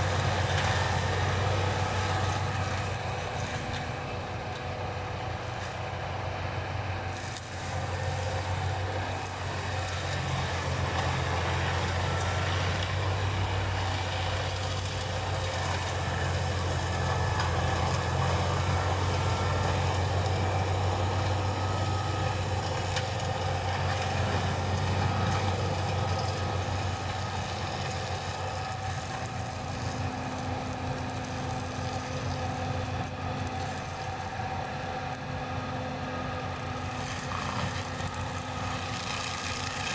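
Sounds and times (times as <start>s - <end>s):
forestry mulcher shredding brush: 0.0s - 39.9s
tractor diesel engine under load: 0.0s - 39.9s.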